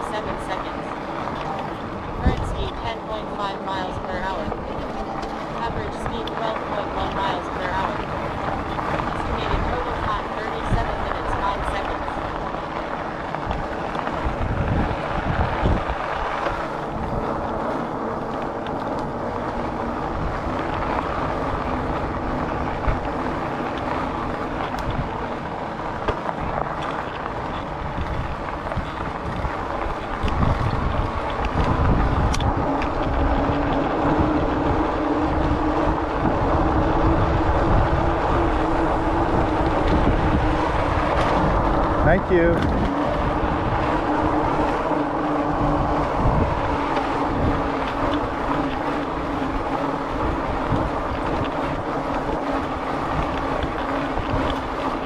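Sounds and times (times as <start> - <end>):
electric motor whine: 0.0 - 55.0
tyres rolling on pavement: 0.0 - 55.0
wind buffeting microphone: 0.0 - 55.0.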